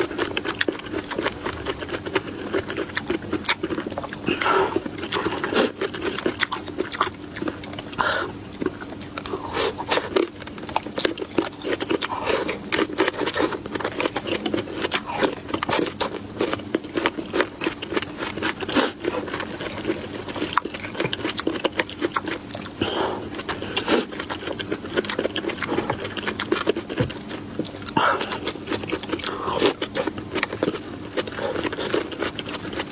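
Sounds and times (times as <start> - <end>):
close chewing and crunching: 0.0 - 32.9
faint steady hum: 0.0 - 32.9.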